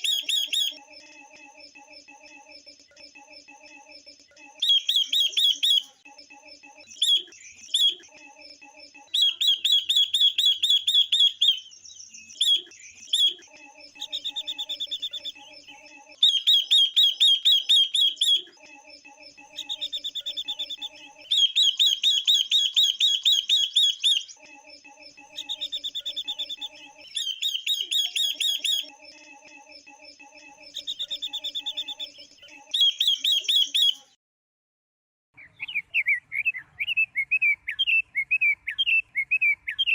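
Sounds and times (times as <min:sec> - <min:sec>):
songbirds chirping: 0:00.0 - 0:34.1.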